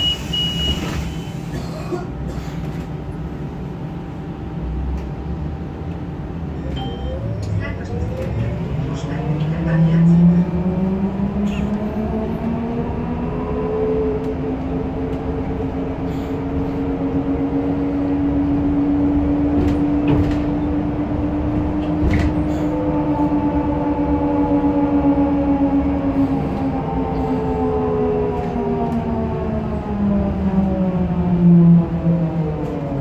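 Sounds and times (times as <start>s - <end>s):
road rumble: 0.0s - 33.0s.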